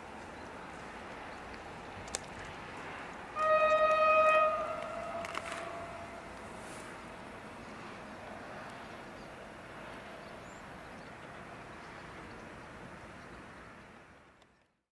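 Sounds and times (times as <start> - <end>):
distant train rumble: 0.0 - 14.0.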